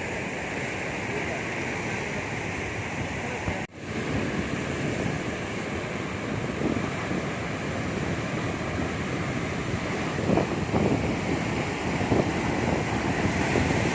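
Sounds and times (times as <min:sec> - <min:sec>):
waves breaking: 0:00.0 - 0:13.9
wind on microphone: 0:00.0 - 0:13.9.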